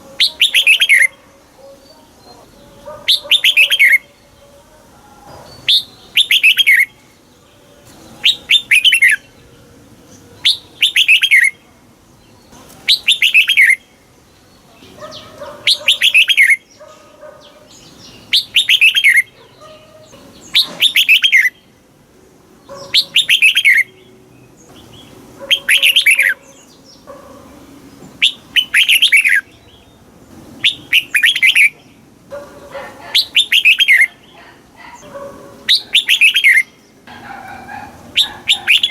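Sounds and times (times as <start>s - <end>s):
bird singing falling phrase: 0.0s - 11.6s, 12.2s - 14.0s, 14.6s - 21.8s, 22.7s - 32.0s, 33.2s - 38.9s.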